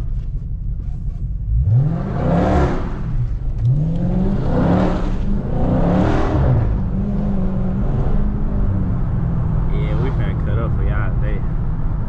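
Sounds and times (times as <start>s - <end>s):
car engine accelerating hard: 1.4s - 12.0s.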